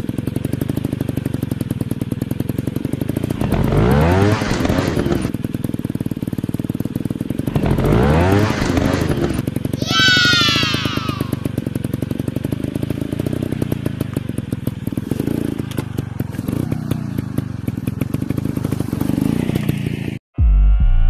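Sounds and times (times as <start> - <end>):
dirt bike engine chugging: 0.0 - 20.2.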